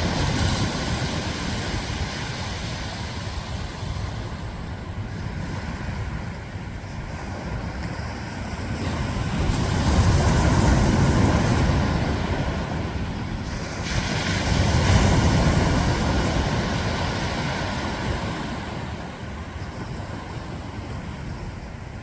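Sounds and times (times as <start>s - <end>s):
ocean waves breaking on beach: 0.0s - 22.0s.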